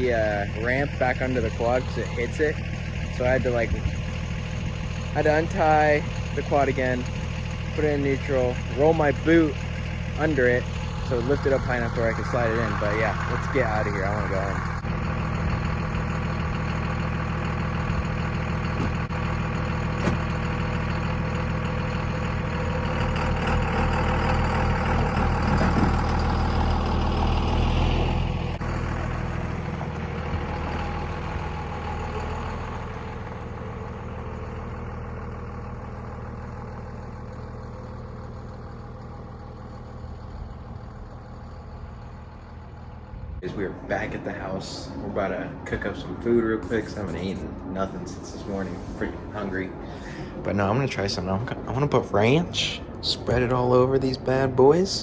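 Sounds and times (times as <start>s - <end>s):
pickup truck engine driving off: 0.0s - 55.0s.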